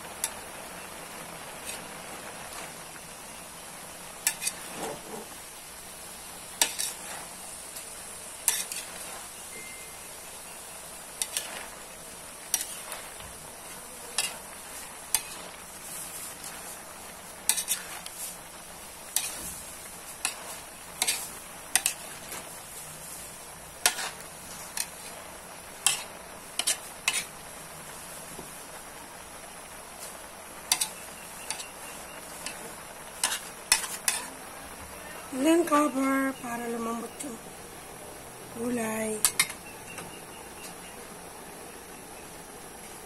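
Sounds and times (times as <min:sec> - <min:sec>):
frying sizzle: 0:00.0 - 0:43.0.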